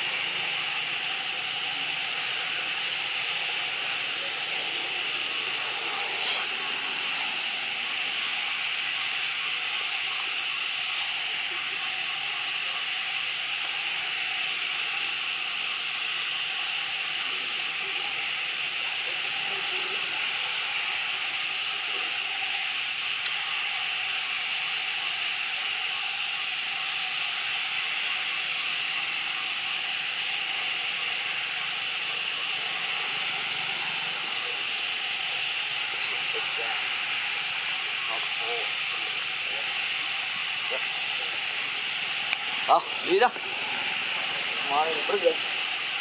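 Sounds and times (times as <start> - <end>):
steady high-pitched hiss: 0.0 - 46.0.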